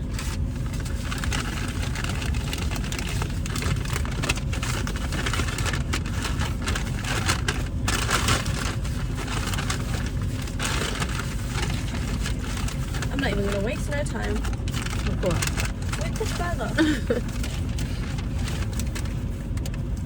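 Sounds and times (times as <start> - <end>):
car cabin low rumble: 0.0 - 20.0
paper packaging rustling: 0.0 - 20.0.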